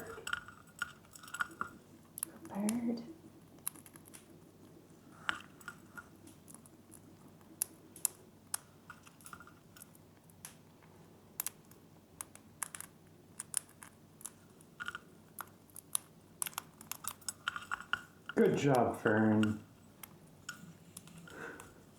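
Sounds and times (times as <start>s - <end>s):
bird beaks and claws tapping: 3.5s - 10.6s, 11.4s - 21.9s.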